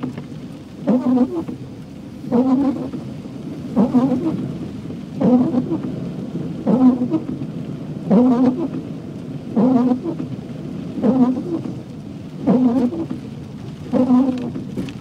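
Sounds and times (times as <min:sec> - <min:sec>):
rain hiss: 0:00.0 - 0:15.0
road noise: 0:00.0 - 0:15.0
windscreen wipers rubbing on glass: 0:00.0 - 0:15.0.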